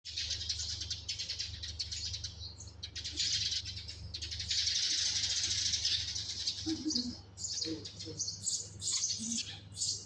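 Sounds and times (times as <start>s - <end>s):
sparrows chirping: 0.1s - 10.0s.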